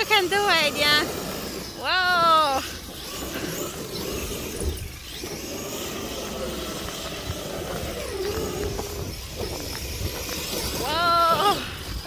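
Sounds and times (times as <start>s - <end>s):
constant low rumble: 0.0s - 12.0s
electric motor running: 0.0s - 12.0s.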